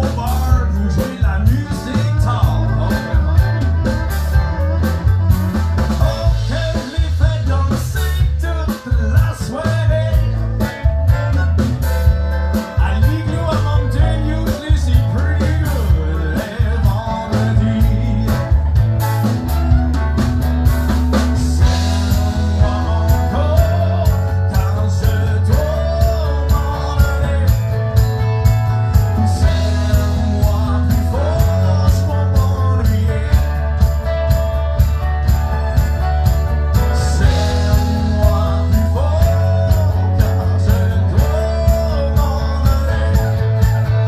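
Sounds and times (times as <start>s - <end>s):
drum kit beat: 0.0s - 44.0s
electric guitar: 0.0s - 44.0s.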